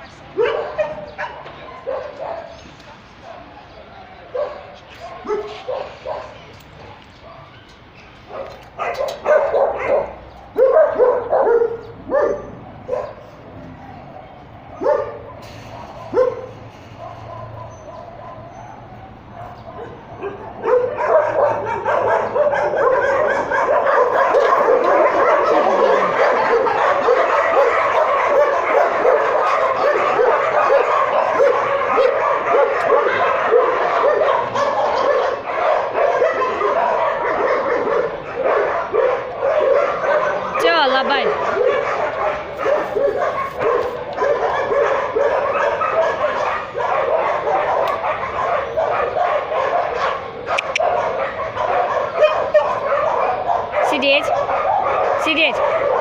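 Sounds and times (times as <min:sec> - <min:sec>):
dogs barking and yelping: 0:00.0 - 0:56.0.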